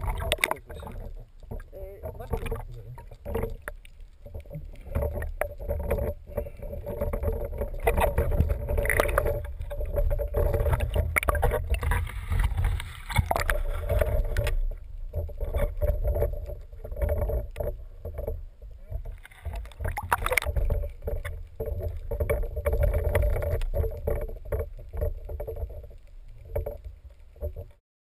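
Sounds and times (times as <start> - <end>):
underwater water rumble: 0.0 - 27.8.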